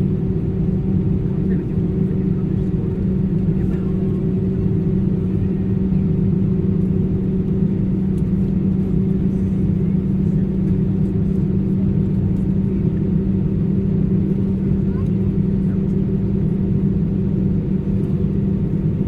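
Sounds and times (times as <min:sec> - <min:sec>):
engine low rumble: 0:00.0 - 0:19.0.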